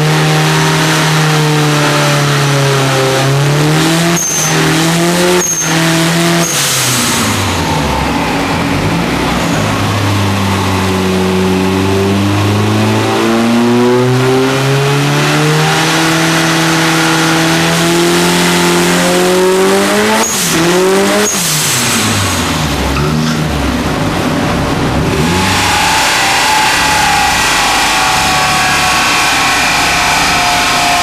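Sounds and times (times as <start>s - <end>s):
engine revving at full throttle: 0.0s - 31.0s.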